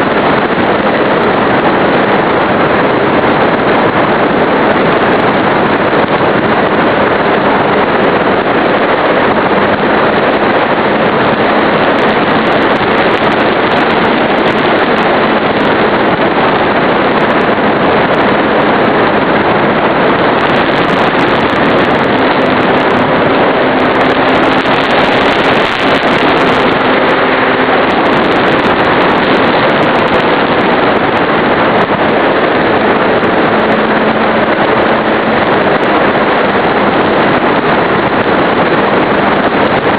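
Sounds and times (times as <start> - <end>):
wind and propeller rush: 0.0 - 39.9.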